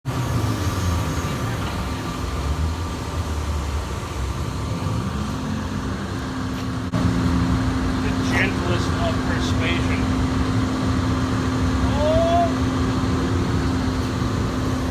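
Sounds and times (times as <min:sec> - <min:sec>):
excavator diesel engine running: 0:00.1 - 0:14.9.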